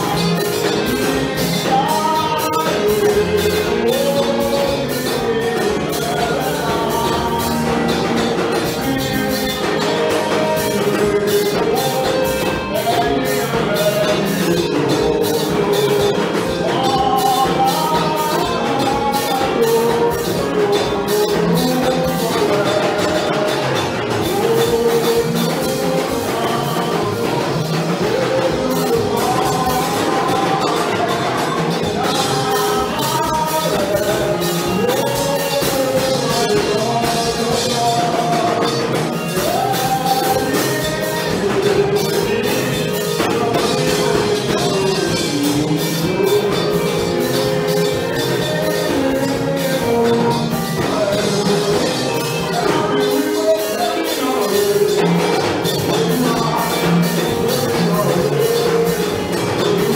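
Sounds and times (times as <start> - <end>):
man singing into microphone: 0.0 - 59.9
percussion beat: 0.0 - 59.9.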